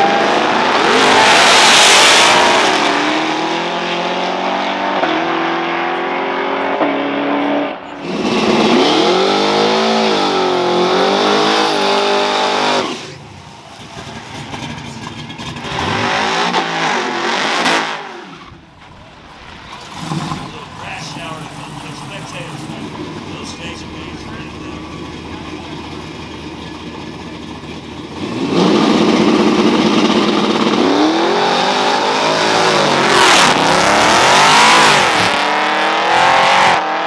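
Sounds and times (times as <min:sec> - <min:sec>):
car engine revving during burnout: 0:00.0 - 0:13.2, 0:13.8 - 0:18.7, 0:19.4 - 0:37.0
race car engines revving: 0:00.0 - 0:37.0.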